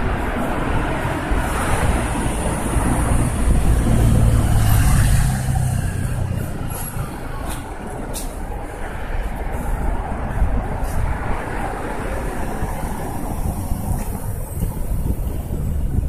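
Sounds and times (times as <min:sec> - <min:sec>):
heavy vehicle engine passing: 0:00.0 - 0:15.8
street traffic: 0:00.0 - 0:16.0.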